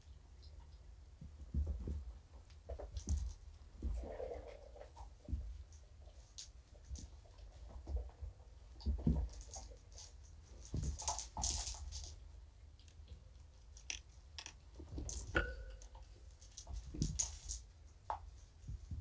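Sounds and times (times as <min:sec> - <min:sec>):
kittens playing with toys: 0:00.6 - 0:19.0.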